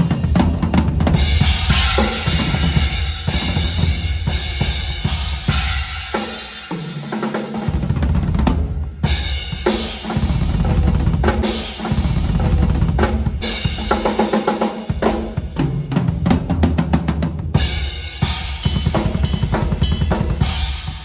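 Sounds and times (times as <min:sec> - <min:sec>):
bass drum: 0:00.0 - 0:05.9, 0:07.7 - 0:14.2, 0:14.9 - 0:21.0
cymbals: 0:00.0 - 0:15.9, 0:17.6 - 0:21.0
snare drum: 0:00.0 - 0:21.0.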